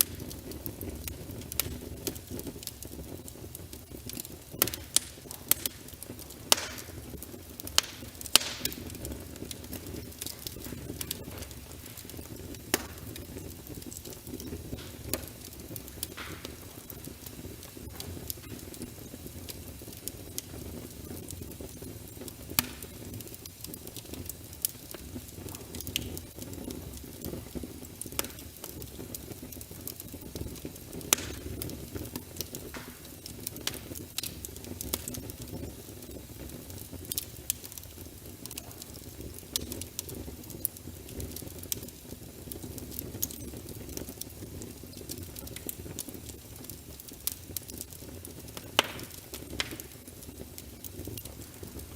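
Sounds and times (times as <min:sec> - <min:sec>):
fire low rumble: 0:00.0 - 0:51.9
wood fire crackling and popping: 0:00.0 - 0:51.9.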